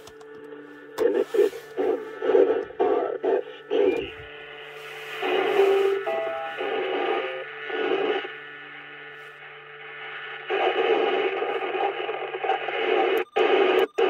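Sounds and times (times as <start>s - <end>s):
low steady hum: 0.0s - 13.8s
faint steady radio tones: 0.0s - 14.0s
radio static: 0.0s - 14.0s.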